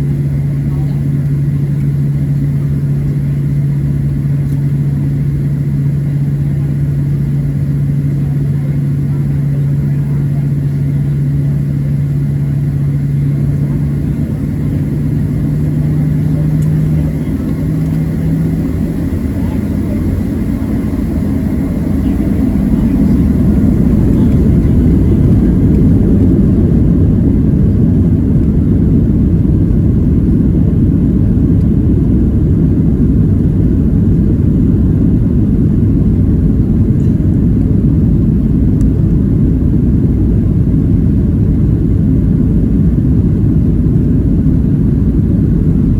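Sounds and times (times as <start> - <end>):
jet engines rumbling: 0.0 - 45.9
low steady hum: 0.0 - 45.9.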